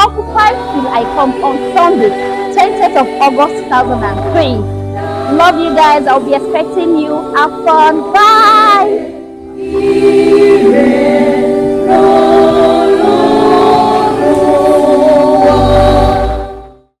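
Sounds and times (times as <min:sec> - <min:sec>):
choir singing gospel music: 0:00.0 - 0:17.0.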